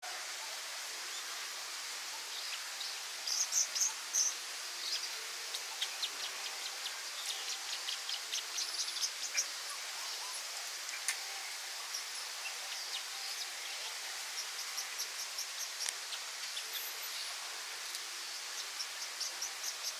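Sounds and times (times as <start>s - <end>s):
steady background hiss: 0.0s - 19.9s
small birds chirping: 0.4s - 19.9s.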